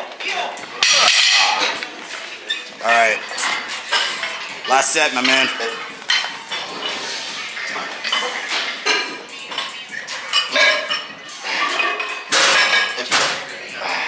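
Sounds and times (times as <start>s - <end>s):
metal gym weights clanking: 0.8s - 14.0s.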